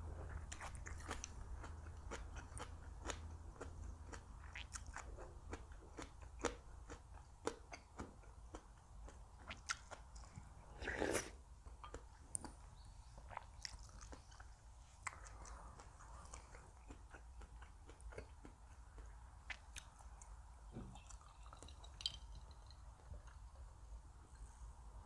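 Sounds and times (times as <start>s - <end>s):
person chewing food: 0.0s - 23.7s.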